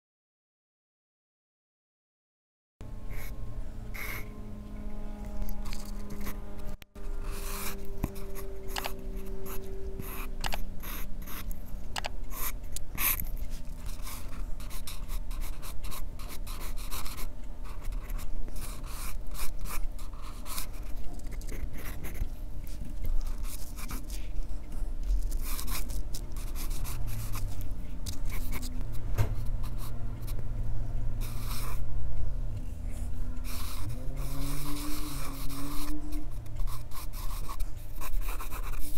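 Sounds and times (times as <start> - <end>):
low steady hum: 2.8 - 38.9
pencil scratching on paper: 3.1 - 4.3, 5.4 - 11.6, 12.2 - 30.4, 31.2 - 31.9, 33.0 - 38.9.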